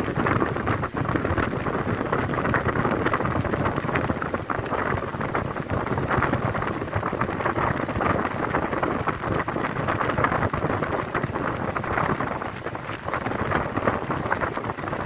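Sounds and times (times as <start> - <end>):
wall fan rushing air: 0.0 - 15.0.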